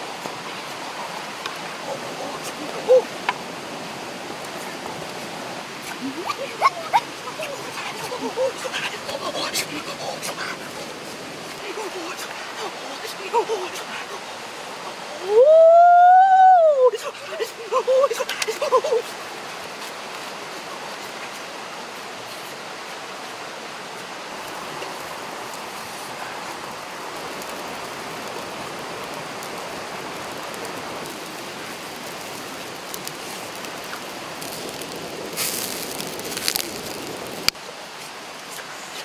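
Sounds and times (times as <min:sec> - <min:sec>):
ribs sizzling over fire: 0:00.0 - 0:22.7, 0:24.2 - 0:39.0
burning wood crackling: 0:00.0 - 0:39.0.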